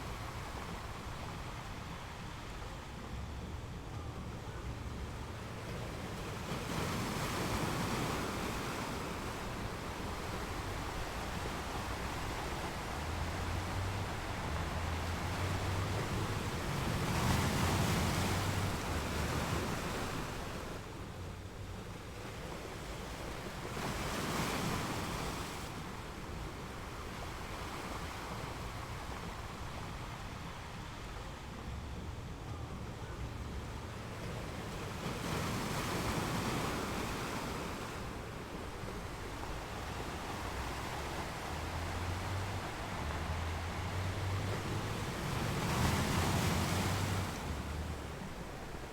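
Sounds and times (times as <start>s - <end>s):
ocean waves washing: 4.6s - 48.9s.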